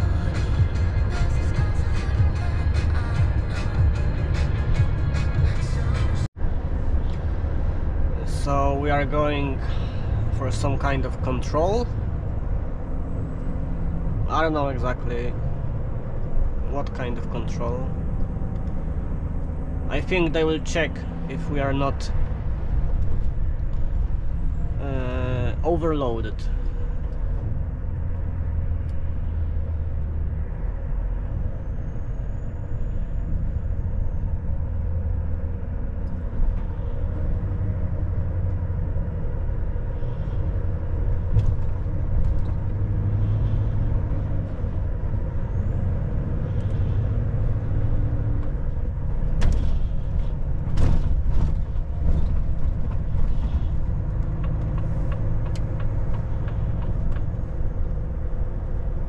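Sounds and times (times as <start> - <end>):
truck engine and road drone: 0.0 - 59.0.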